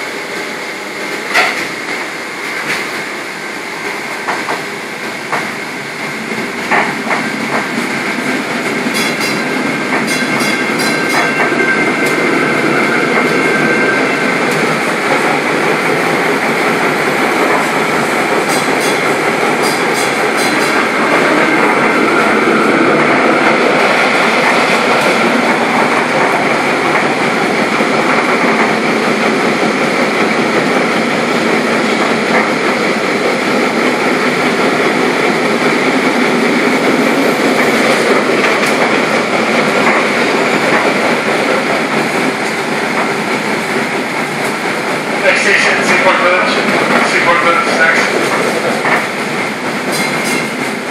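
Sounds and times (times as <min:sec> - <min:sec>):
streetcar motors: 0:00.0 - 0:50.9
streetcar wheels on rails: 0:00.0 - 0:50.9.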